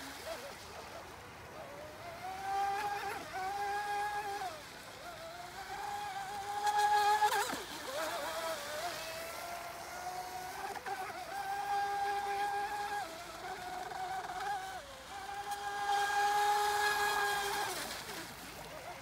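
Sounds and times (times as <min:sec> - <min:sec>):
rush of spray: 0:00.0 - 0:19.0
speedboat electric motor whining: 0:00.0 - 0:19.0.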